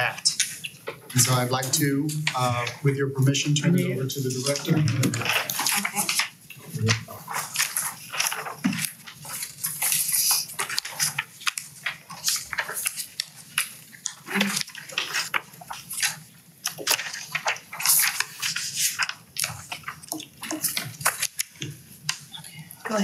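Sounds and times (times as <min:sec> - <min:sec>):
paper rustling: 0:00.0 - 0:23.0.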